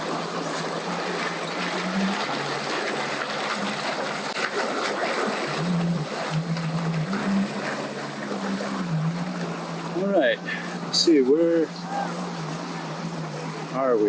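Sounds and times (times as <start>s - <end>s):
boat engine idling: 0.0s - 14.0s
wind: 0.0s - 14.0s.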